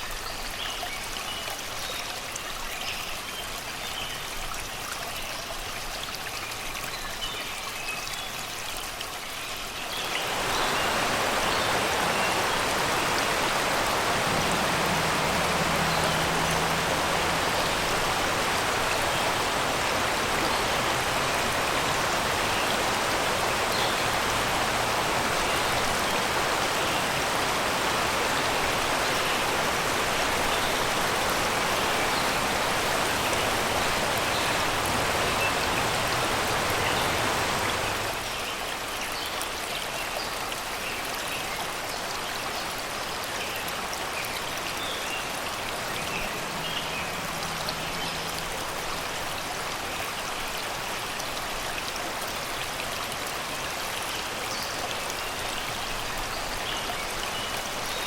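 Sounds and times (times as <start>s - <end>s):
river water rushing over rocks: 8.4s - 58.0s.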